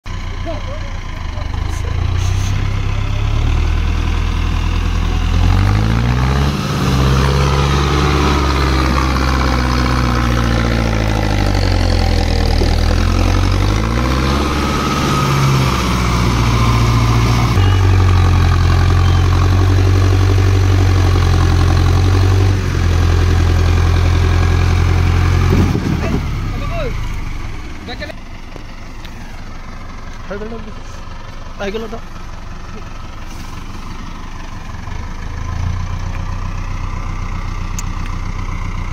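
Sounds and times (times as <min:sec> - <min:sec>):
tractor diesel engine straining: 0:00.0 - 0:38.9.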